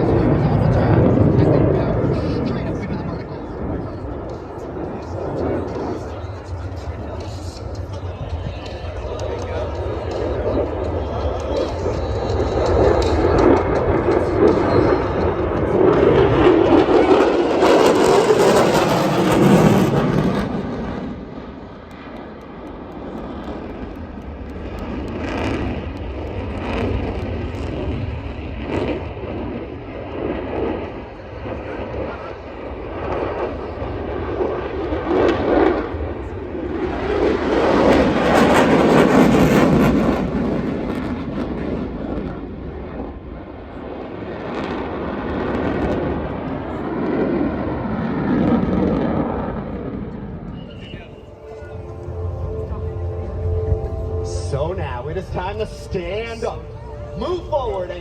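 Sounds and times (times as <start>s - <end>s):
aircraft engine: 0.0s - 58.0s.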